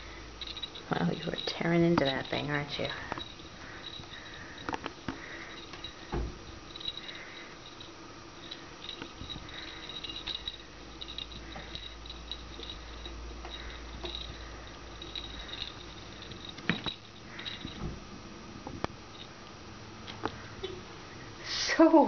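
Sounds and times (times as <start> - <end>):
faint rustling: 0.0 - 21.5.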